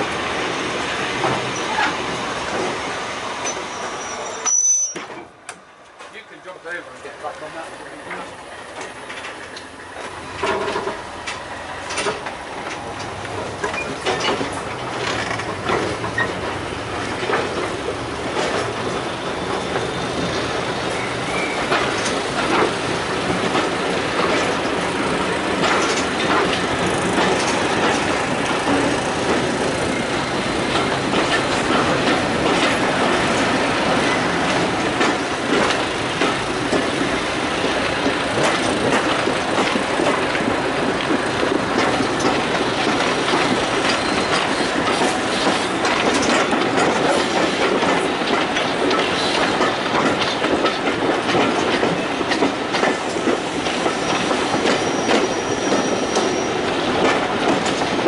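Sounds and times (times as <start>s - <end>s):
train rumble: 0.0s - 58.0s
train wheels clicking over rail joints: 0.0s - 58.0s.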